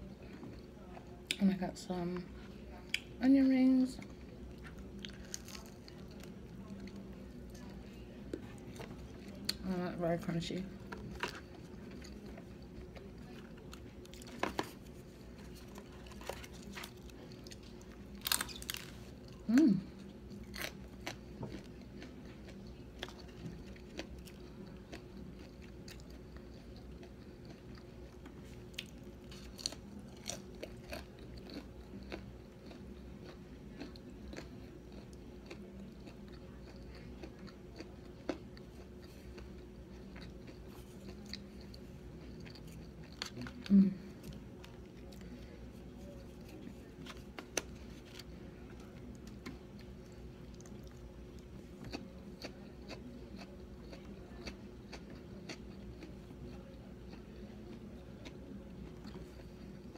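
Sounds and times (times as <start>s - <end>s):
chewing and crunching onion rings: 0.0s - 59.9s.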